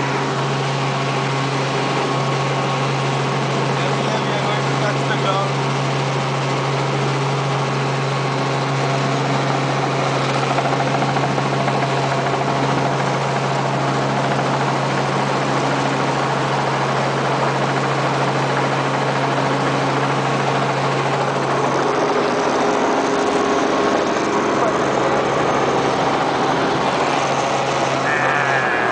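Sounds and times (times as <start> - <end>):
helicopter engine and rotor drone: 0.0 - 28.9.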